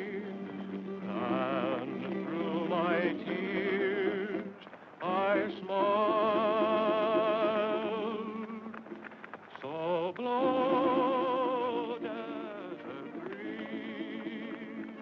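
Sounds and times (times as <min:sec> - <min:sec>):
person singing with vibrato: 0:00.0 - 0:08.9, 0:09.6 - 0:15.0
instrumental accompaniment: 0:00.0 - 0:09.5, 0:10.1 - 0:15.0.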